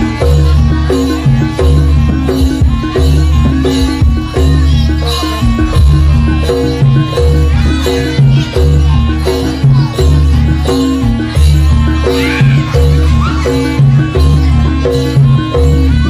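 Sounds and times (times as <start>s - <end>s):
drums with deep bass beat: 0.0s - 16.0s.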